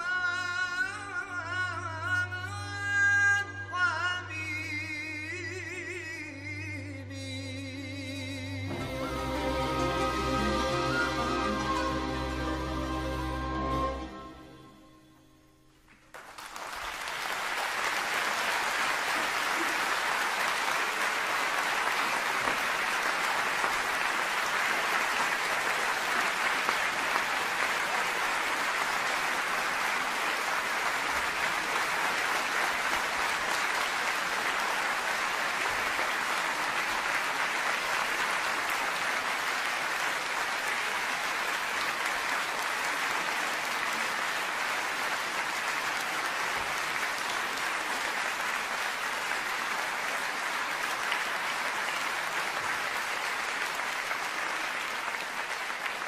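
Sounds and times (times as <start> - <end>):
audience applauding: 8.7 - 14.4, 15.9 - 56.0.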